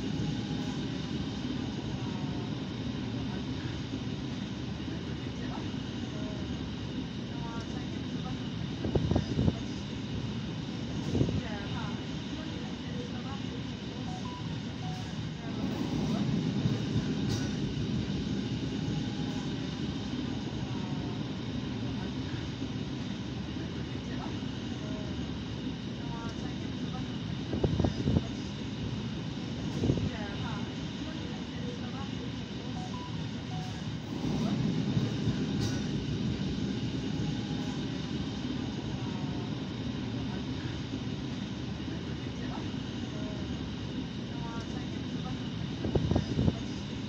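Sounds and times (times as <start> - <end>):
railcar engine drone: 0.0 - 47.0
train running rumble: 0.0 - 47.0.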